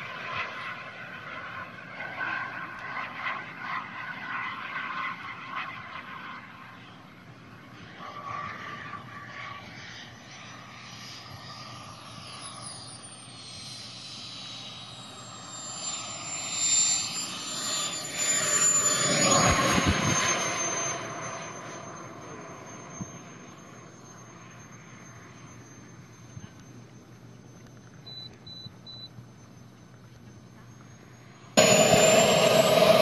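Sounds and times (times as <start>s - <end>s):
model jet turbine engine whining: 0.0s - 33.0s.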